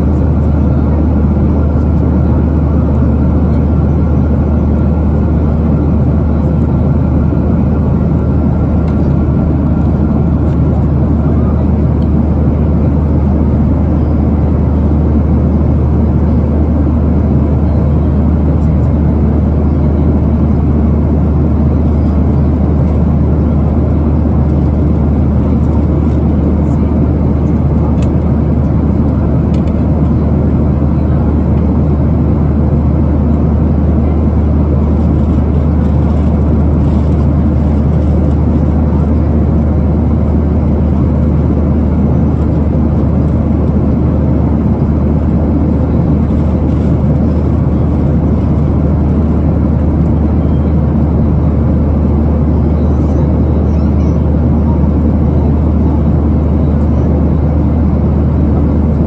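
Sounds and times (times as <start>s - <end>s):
airplane cabin roar: 0.0s - 59.0s.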